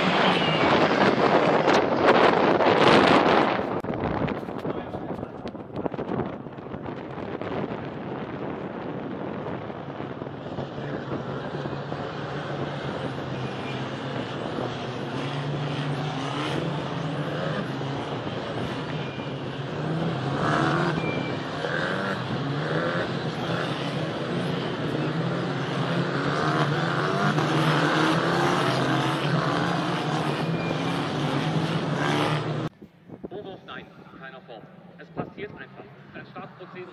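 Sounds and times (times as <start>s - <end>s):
race cars driving past revving: 0.0s - 32.7s.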